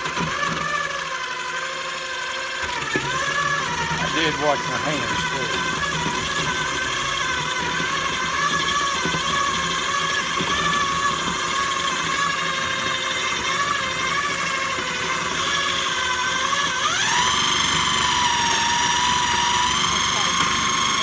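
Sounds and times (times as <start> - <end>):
food grinder motor whine: 0.0 - 21.0.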